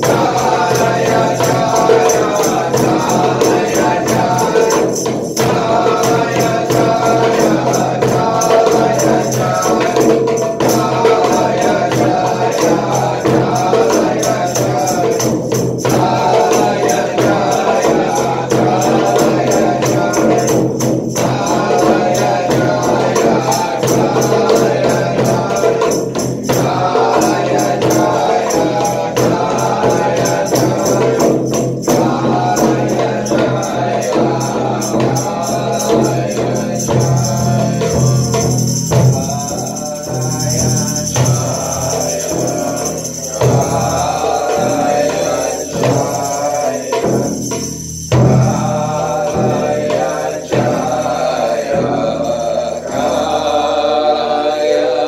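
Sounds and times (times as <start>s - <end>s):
jingling percussion beat: 0.0s - 55.0s
voices chanting: 0.0s - 55.0s.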